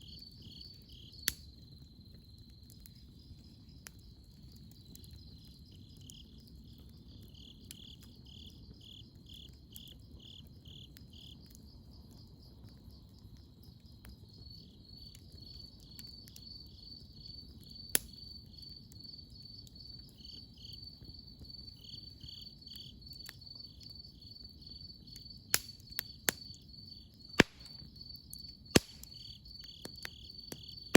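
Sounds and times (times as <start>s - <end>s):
campfire popping: 0.0s - 30.9s
insects trilling: 0.0s - 30.9s
pulsing insect chirp: 0.0s - 30.9s.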